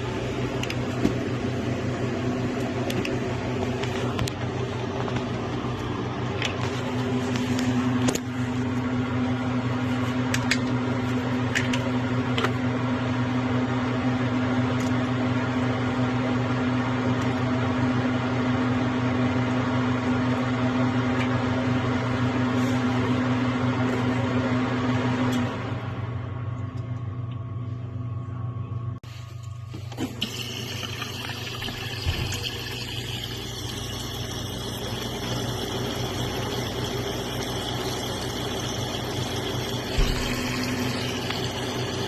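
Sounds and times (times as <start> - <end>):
mechanical hum with held tone: 0.0 - 42.0.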